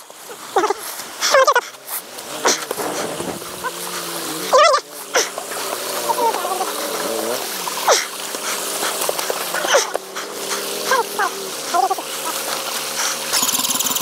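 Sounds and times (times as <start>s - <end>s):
men grunting and calling out: 0.3s - 12.7s.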